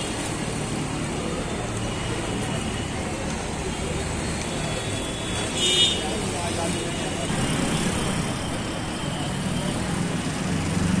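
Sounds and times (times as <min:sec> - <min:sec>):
traffic engine hum: 0:00.0 - 0:11.0
crowd talking: 0:00.4 - 0:11.0.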